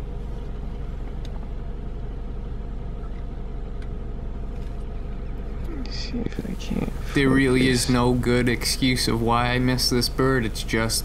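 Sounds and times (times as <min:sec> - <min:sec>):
motor rumbling: 0:00.0 - 0:11.0.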